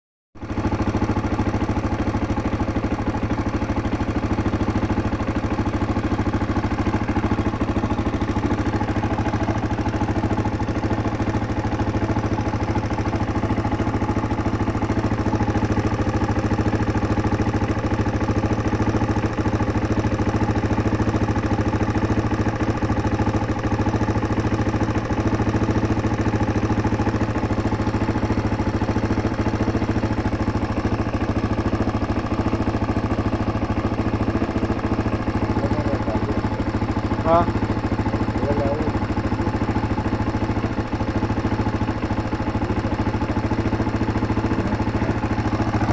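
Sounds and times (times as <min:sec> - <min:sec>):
motorcycle engine idling: 0:00.4 - 0:45.9.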